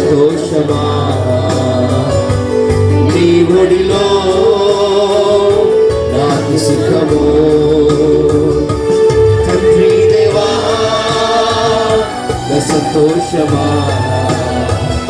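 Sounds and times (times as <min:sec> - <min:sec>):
worship song with band: 0:00.0 - 0:15.0.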